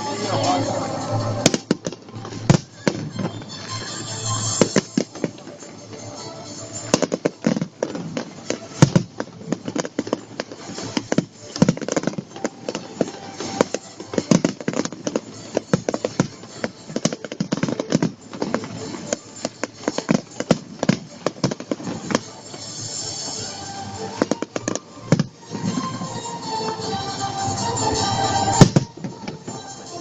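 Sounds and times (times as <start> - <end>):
fireworks popping and banging: 0.0 - 30.0.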